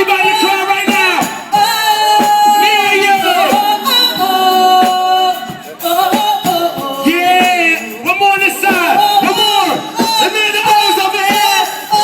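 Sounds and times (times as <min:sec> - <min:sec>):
backing music: 0:00.0 - 0:12.0
person singing long notes: 0:00.0 - 0:12.0.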